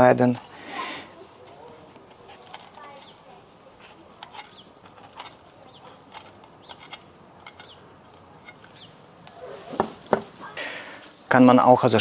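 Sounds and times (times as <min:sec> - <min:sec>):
bird chirping: 0:00.4 - 0:11.2.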